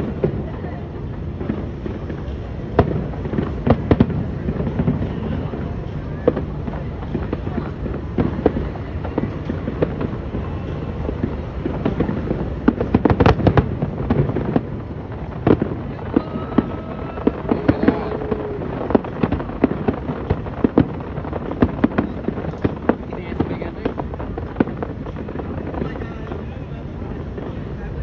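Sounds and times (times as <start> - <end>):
fireworks bangs and cracks: 0.0 - 28.0
steady rumble: 0.0 - 28.0.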